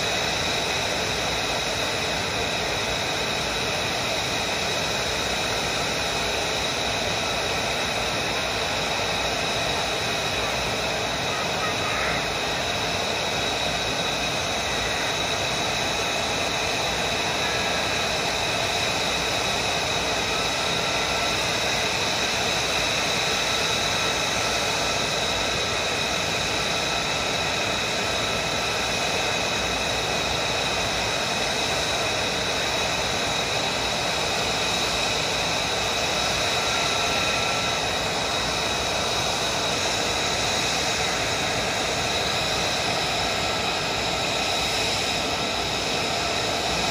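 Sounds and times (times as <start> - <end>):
jet engines idling: 0.0 - 46.9.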